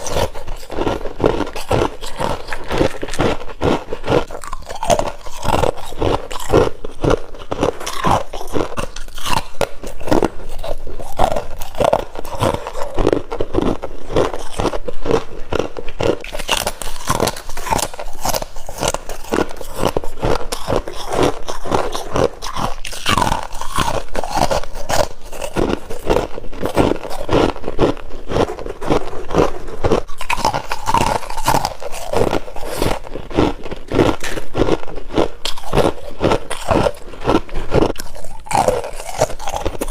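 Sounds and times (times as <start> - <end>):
crunching frost between teeth: 0.0 - 39.9.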